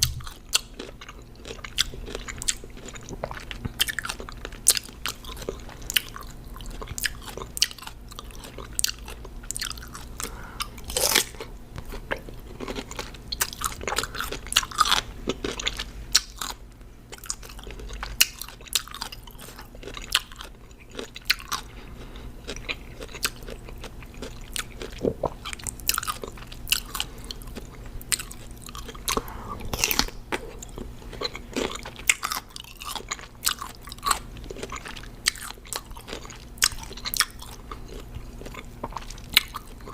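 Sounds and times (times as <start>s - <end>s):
crunching and chewing cucumber: 0.0s - 39.9s.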